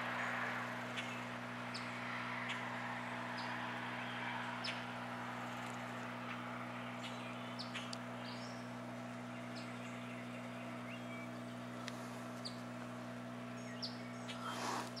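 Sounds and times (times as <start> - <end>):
small songbirds chirping: 0.0 - 15.0
steady low hum: 0.0 - 15.0.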